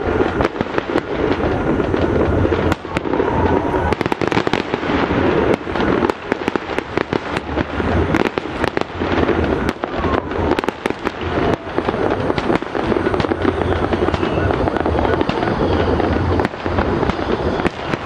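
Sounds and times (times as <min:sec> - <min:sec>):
continuous rumble: 0:00.0 - 0:18.0
fireworks bangs and crackles: 0:00.0 - 0:18.0.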